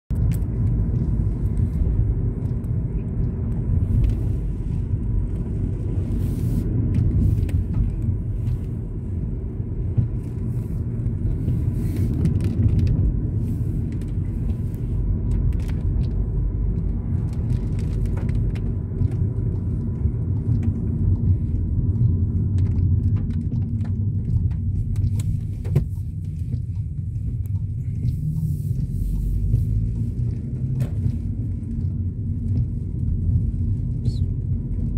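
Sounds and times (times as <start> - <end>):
car engine rumble: 0.1 - 34.9
road noise inside car: 0.1 - 34.9.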